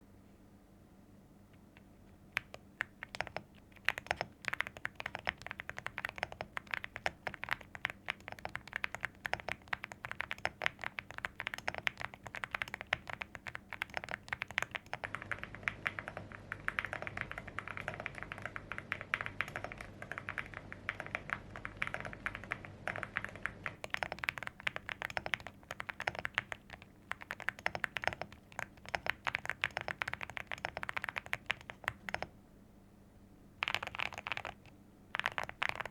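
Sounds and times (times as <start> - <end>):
mechanical keyboard typing: 2.3 - 32.3, 33.6 - 35.9.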